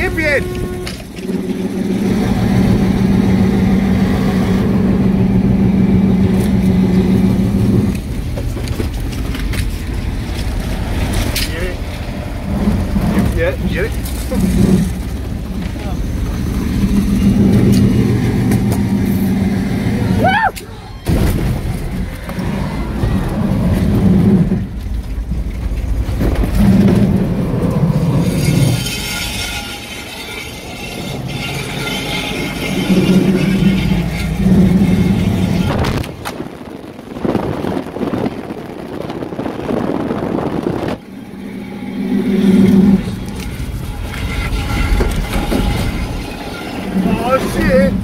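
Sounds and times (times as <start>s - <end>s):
road noise: 0.0s - 48.0s
truck engine revving: 0.0s - 48.0s.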